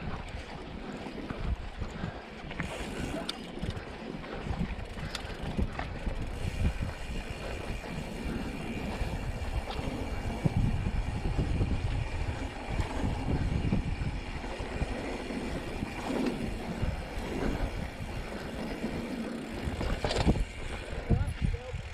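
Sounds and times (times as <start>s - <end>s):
bike rattling: 0.0s - 21.9s
bike tyre rumble: 0.0s - 21.9s
wind buffeting microphone: 0.0s - 21.9s.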